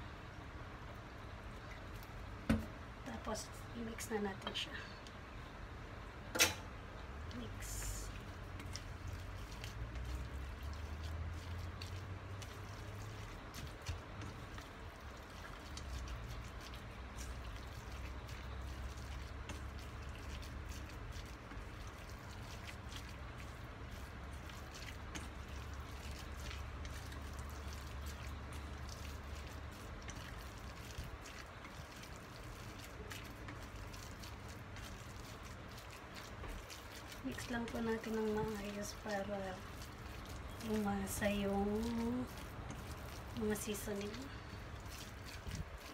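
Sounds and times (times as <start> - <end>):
spatula mixing wet meat: 0.8 - 45.9.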